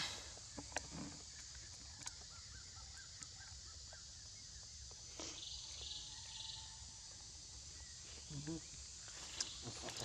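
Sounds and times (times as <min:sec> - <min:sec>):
high insect hiss: 0:00.0 - 0:10.0.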